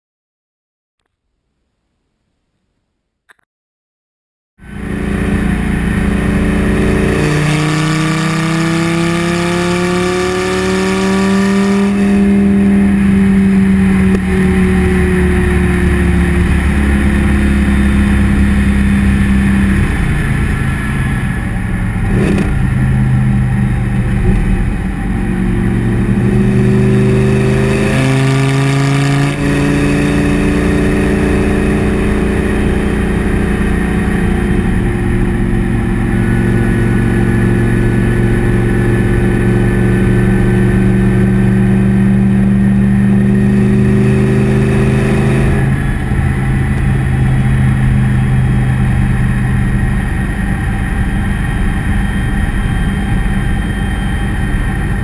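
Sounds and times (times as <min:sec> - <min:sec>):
car exhaust engine note: 0:04.6 - 0:55.0.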